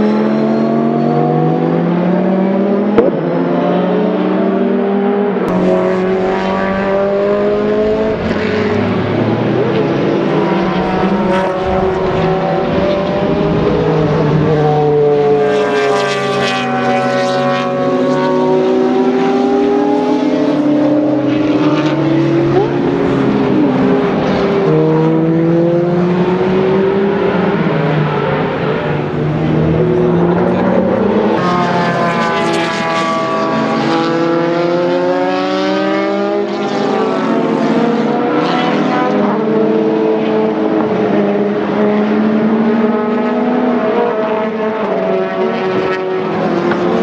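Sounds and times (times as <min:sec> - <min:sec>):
race car engines: 0:00.0 - 0:47.0
race car passing close: 0:00.0 - 0:47.0.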